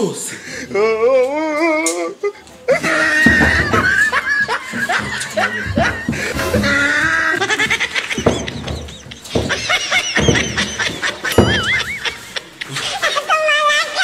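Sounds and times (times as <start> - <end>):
laughter: 2.7 - 14.0.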